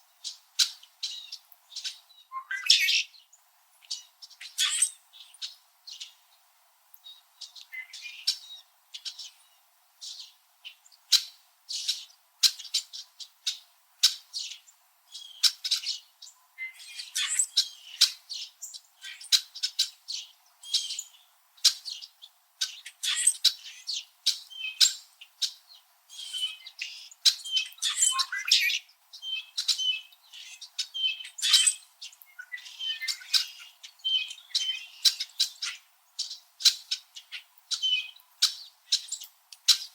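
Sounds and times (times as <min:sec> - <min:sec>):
flock of birds chirping and squawking: 0:00.2 - 0:06.3, 0:07.0 - 0:39.9.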